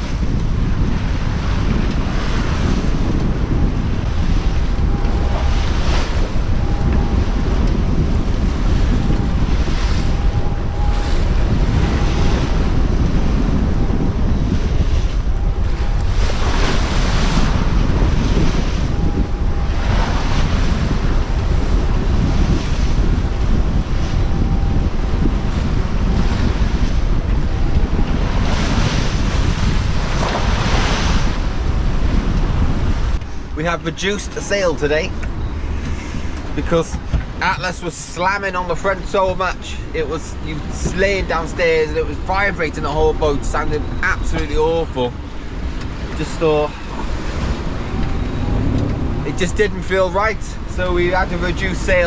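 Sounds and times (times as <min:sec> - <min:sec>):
waves rushing along hull: 0:00.0 - 0:52.0
wind buffeting microphone: 0:00.0 - 0:52.0.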